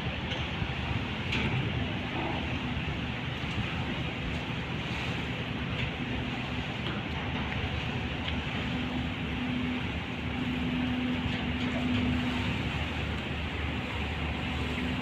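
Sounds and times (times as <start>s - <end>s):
ship engines rumbling: 0.0s - 15.0s
steady hum: 0.0s - 15.0s.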